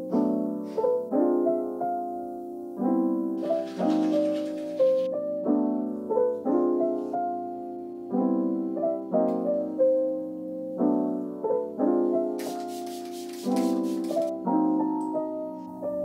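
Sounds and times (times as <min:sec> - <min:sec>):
slow piano tune: 0:00.0 - 0:16.0.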